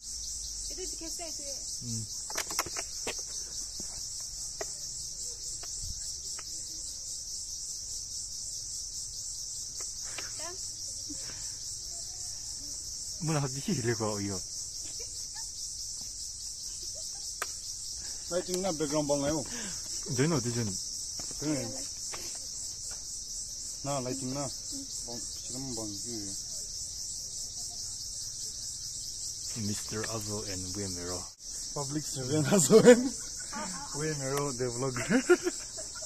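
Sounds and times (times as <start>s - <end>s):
insect chorus trilling: 0.0s - 36.0s.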